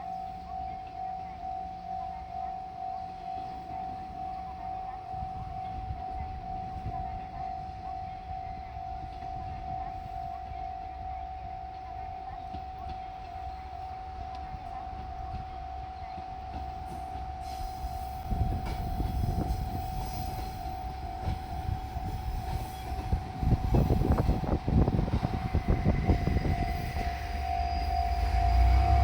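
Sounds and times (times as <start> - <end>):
diesel train rumbling past: 0.0 - 29.0
level crossing warning bell: 0.0 - 29.0.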